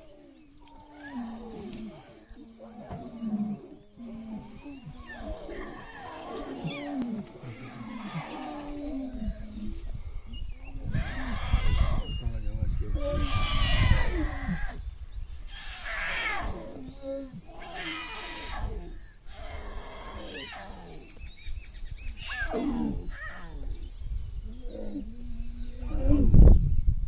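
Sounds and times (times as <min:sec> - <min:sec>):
lions calling: 0:00.0 - 0:21.3, 0:22.1 - 0:26.4.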